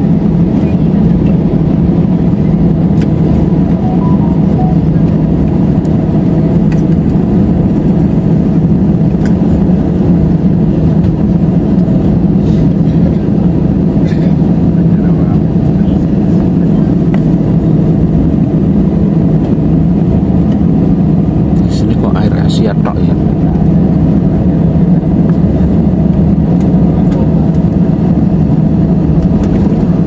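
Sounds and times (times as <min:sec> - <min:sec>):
aircraft cabin rumble: 0:00.0 - 0:30.0.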